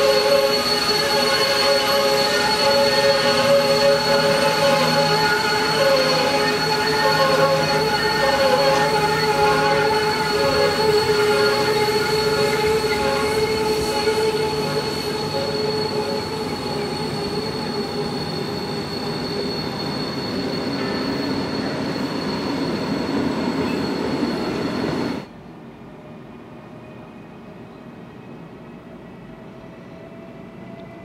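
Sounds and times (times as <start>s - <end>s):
wheels squealing: 0.0s - 25.2s
freight train rumbling past: 0.0s - 31.0s.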